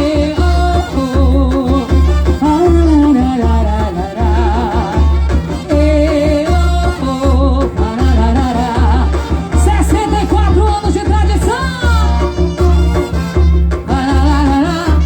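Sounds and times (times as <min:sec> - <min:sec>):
heavy drum beat: 0:00.0 - 0:15.0.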